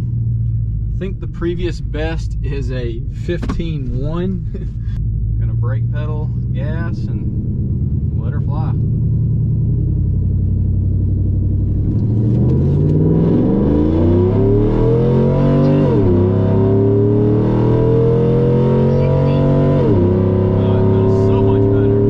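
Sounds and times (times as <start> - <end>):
truck vee-eight engine revving: 0.9 - 22.0.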